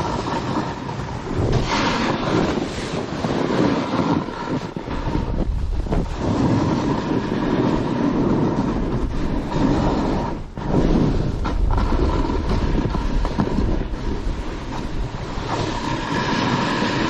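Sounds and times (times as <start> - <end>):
snowboard scraping over snow: 0.0 - 17.0
wind noise on microphone: 0.0 - 17.0.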